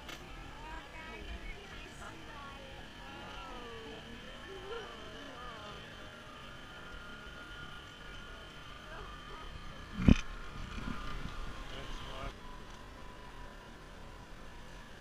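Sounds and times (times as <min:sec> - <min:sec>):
faint voices talking: 0:00.0 - 0:12.4.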